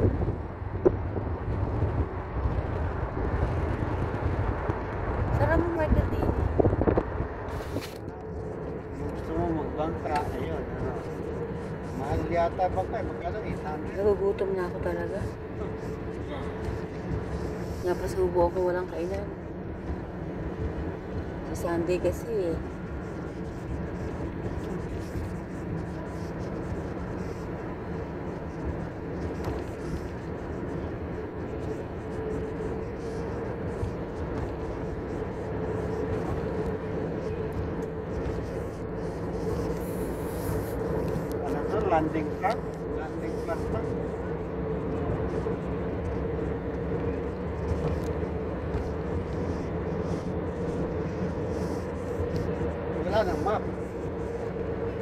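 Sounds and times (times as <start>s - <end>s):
vehicle rumbling in motion: 0.0s - 55.0s.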